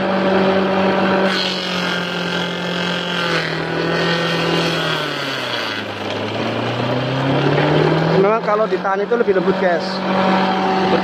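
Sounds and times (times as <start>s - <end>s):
forage chopper motor hum: 0.0s - 11.0s.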